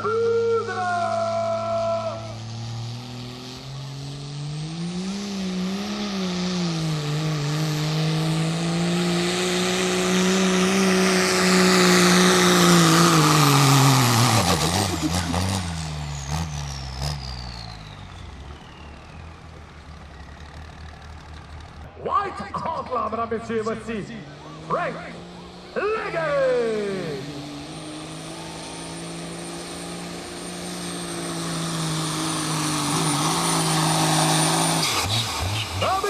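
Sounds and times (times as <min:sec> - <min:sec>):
diesel truck engine under load: 0:00.0 - 0:22.0, 0:22.7 - 0:36.0.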